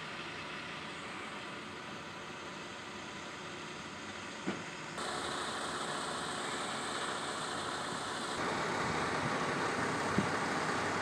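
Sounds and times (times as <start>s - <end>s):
truck engines idling: 0.0s - 11.0s.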